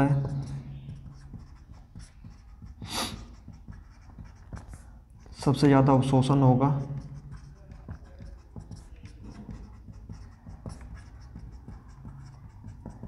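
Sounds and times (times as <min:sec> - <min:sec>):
marker pen scratching on whiteboard: 0:00.0 - 0:13.0.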